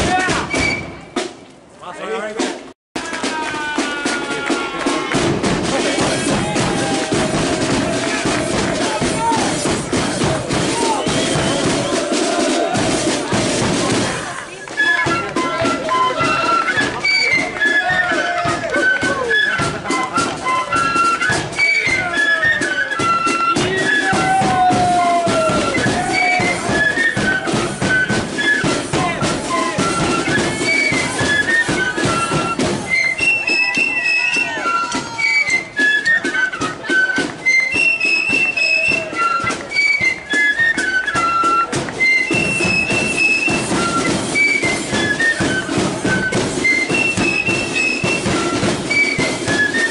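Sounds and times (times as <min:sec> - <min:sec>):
flutes playing a march tune: 0:00.0 - 0:01.4, 0:03.0 - 0:49.9
steady drumming: 0:00.0 - 0:01.4, 0:02.2 - 0:49.9.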